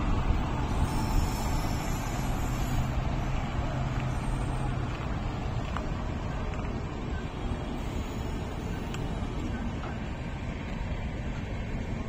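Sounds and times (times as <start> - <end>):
electric locomotive rumbling: 0.0 - 12.0.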